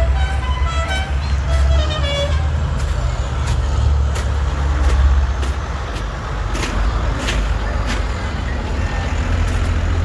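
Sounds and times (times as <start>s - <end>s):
tractor engines rumbling: 0.0s - 10.0s.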